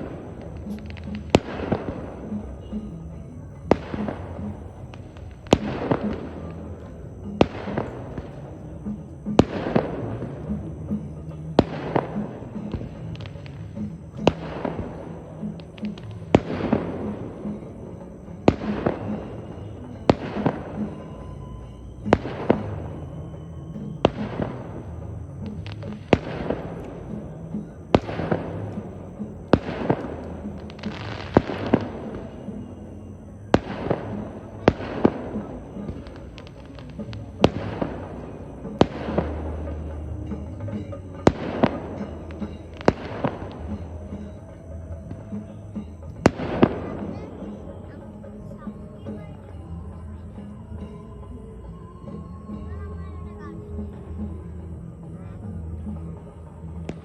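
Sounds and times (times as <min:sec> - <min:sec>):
fireworks bangs: 0:00.0 - 0:49.5.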